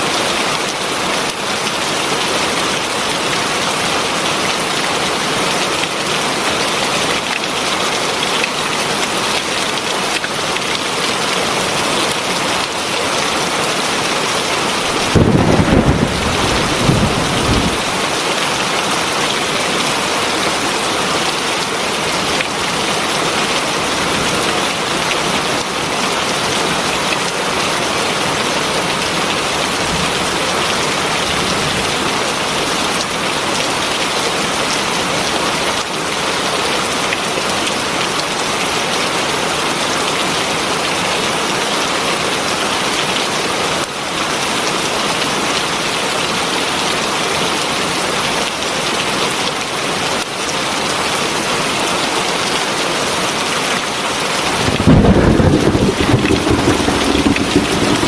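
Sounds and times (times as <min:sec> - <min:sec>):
heavy rain falling: 0:00.0 - 0:51.6, 0:52.6 - 0:58.0.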